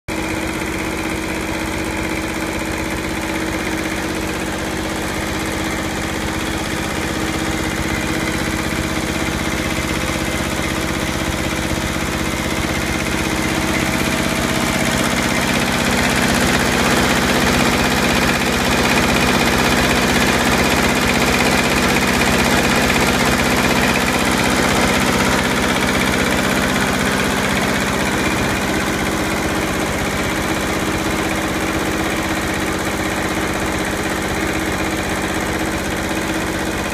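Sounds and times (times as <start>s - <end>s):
tractor diesel engine idling: 0.1s - 36.9s.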